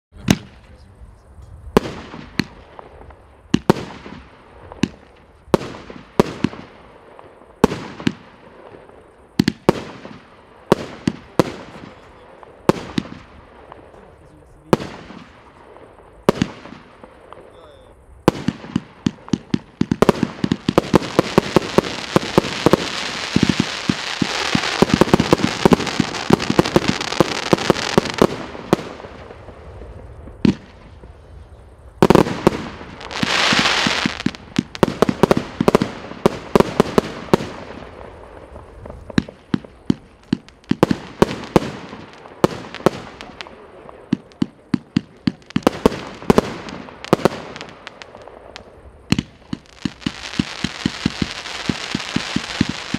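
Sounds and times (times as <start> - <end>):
firework bangs: 0.2 - 0.8, 1.7 - 52.9
firework crackle: 0.2 - 52.9
firework hiss: 0.2 - 52.9.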